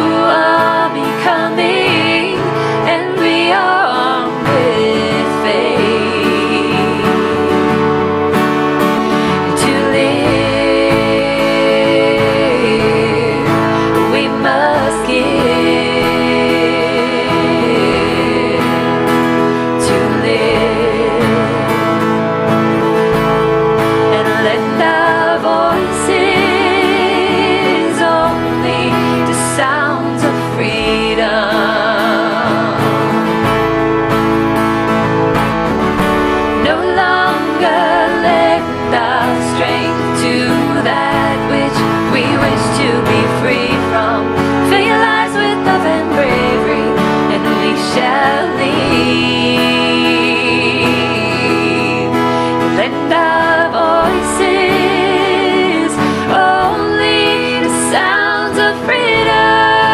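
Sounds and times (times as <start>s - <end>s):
women singing worship song: 0.0s - 23.2s, 23.8s - 34.2s, 36.0s - 59.9s
instrumental accompaniment: 0.0s - 59.9s.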